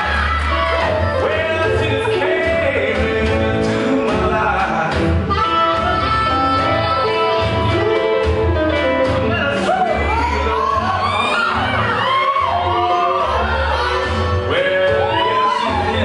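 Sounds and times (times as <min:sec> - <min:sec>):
blues music: 0:00.0 - 0:16.0
pulsing bass line: 0:00.0 - 0:16.0.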